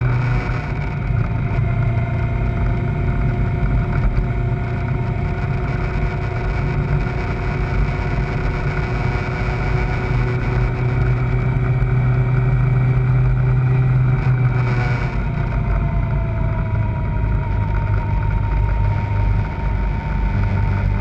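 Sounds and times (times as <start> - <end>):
motorcycle engine running steadily: 0.0 - 21.0.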